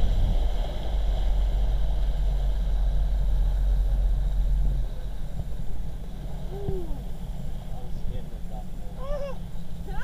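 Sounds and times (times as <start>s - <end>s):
churning wake rushing: 0.0s - 10.0s
motorboat engine running: 0.0s - 10.0s.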